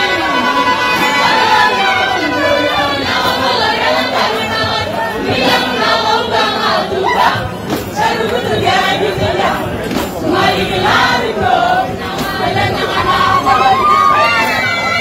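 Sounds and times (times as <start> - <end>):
crowd noise: 0.0 - 15.0
women singing together: 0.0 - 15.0.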